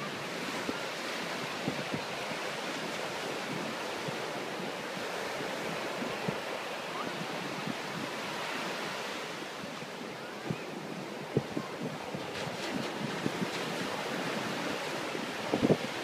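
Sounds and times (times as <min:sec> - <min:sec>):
ocean surf breaking: 0:00.0 - 0:16.0
wind buffeting microphone: 0:00.2 - 0:16.0.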